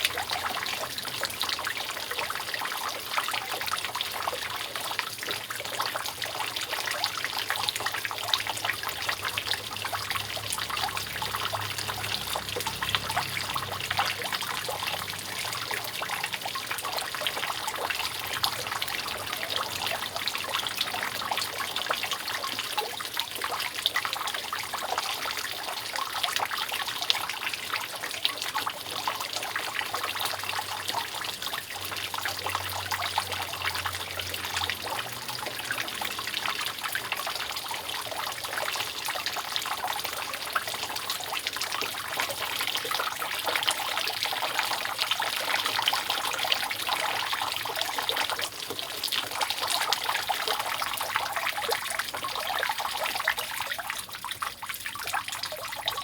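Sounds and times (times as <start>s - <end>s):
water dripping from roof leak: 0.0s - 56.0s.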